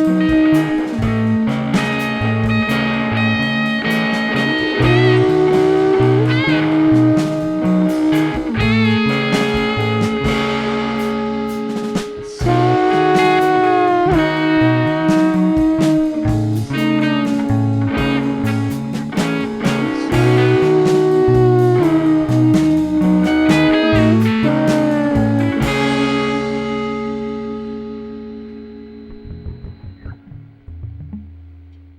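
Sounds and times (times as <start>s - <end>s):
bass line: 0.0s - 31.9s
electric guitar sustained notes: 0.0s - 31.9s
drum hits: 0.3s - 26.5s.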